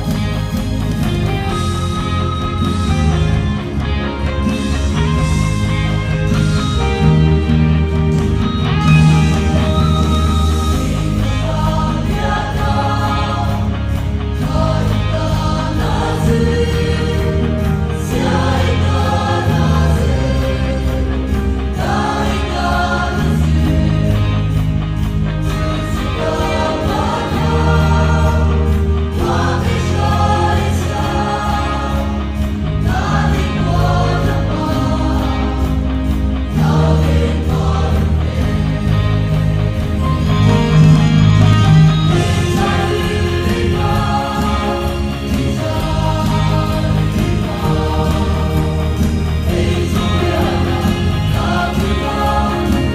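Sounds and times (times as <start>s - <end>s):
low sustained notes: 0.0s - 52.9s
mixed choir singing: 0.0s - 52.9s.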